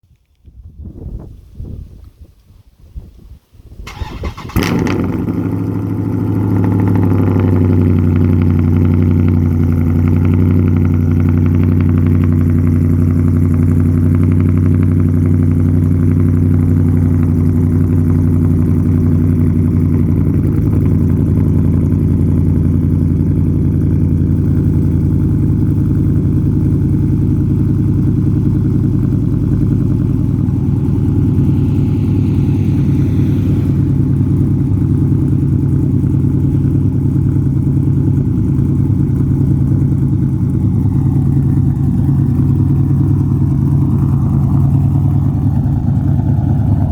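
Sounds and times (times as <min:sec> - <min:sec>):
car engine starting and idling: 0:03.8 - 0:46.9.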